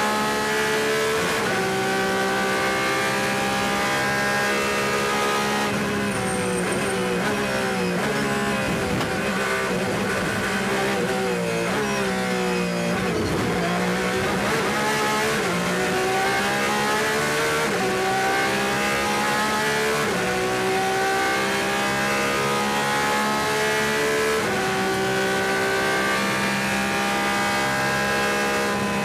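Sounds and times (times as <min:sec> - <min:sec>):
race car engine upshifting: 0:00.1 - 0:29.0.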